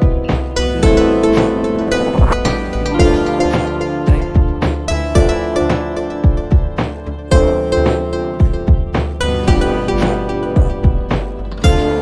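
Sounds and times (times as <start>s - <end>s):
deep drum hits: 0.0s - 12.0s
plucked string chords: 0.0s - 12.0s.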